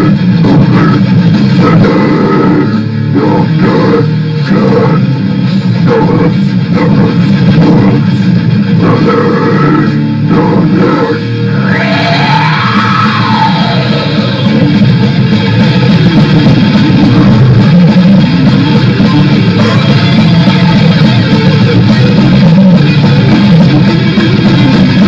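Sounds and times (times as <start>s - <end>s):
heavy rock music with guitar: 0.0s - 25.0s.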